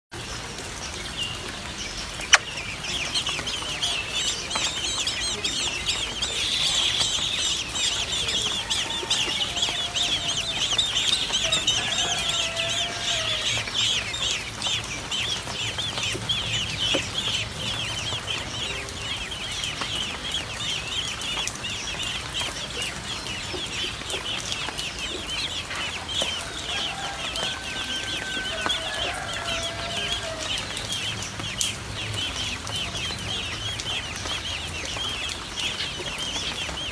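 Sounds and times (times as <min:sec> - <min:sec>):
young birds cheeping: 0:00.9 - 0:36.9
adult bird calls: 0:02.0 - 0:36.9.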